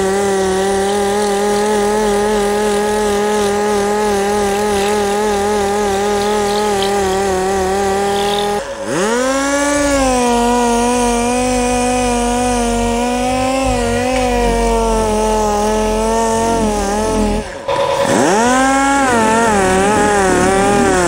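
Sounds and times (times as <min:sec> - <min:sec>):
air sander whining: 0:00.0 - 0:21.0.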